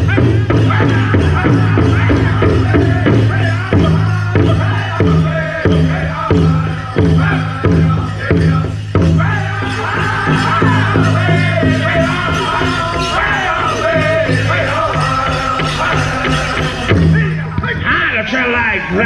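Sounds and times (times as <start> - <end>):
big hand drum beating: 0.0 - 17.6
group of voices singing: 0.0 - 19.0.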